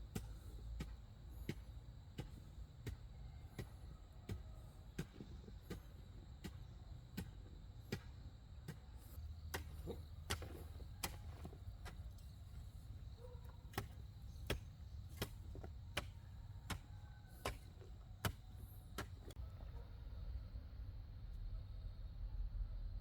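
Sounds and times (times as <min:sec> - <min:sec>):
hand tool chopping strokes: 0:00.0 - 0:19.4.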